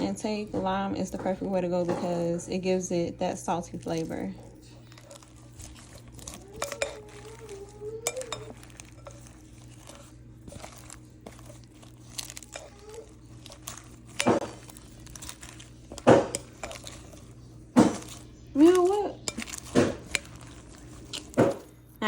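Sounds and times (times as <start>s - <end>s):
utensils and bowl clinking: 0.0s - 22.0s
rustling: 3.7s - 22.0s.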